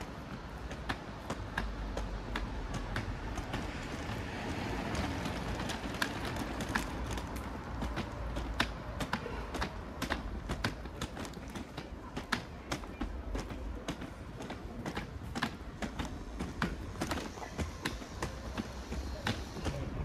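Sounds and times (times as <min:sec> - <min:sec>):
footsteps on pavement: 0:00.0 - 0:20.0
low street hum: 0:00.0 - 0:20.0.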